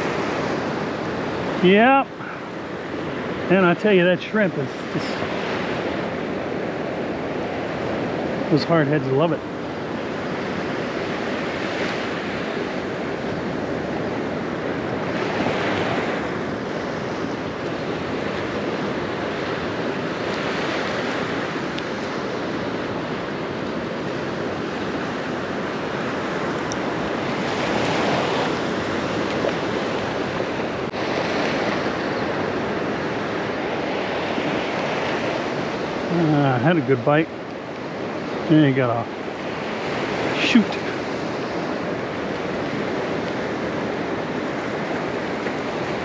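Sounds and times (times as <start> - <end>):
waves breaking on a beach: 0.0 - 46.0
wind: 0.0 - 46.0.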